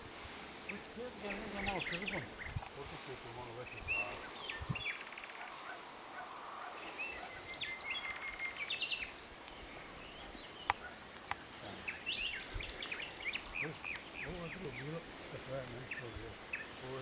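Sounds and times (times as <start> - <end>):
birds chirping: 0.0 - 17.0
faint outdoor hiss: 0.0 - 17.0.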